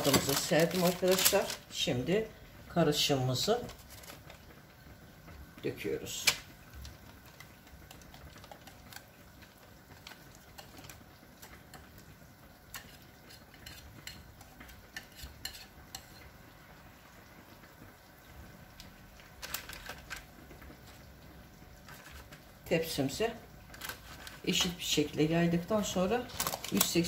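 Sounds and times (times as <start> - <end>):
batter pouring: 0.0 - 27.0.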